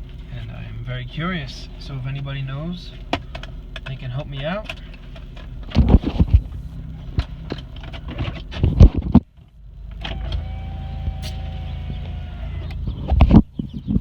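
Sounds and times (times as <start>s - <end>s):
car running hum with whine: 0.0s - 14.0s.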